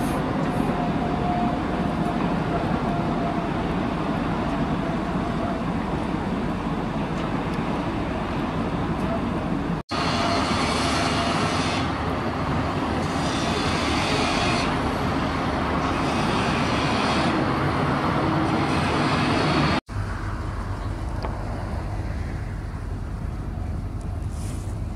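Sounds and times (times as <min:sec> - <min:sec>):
road traffic noise: 0:00.0 - 0:24.9
vehicles passing: 0:00.0 - 0:24.9.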